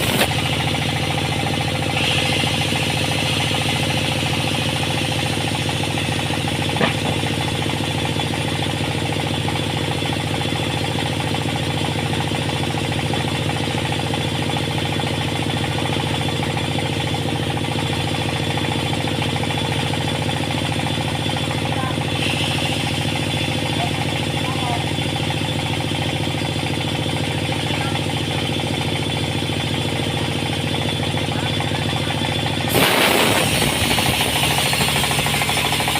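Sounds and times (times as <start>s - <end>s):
sawmill machinery humming: 0.0s - 35.9s.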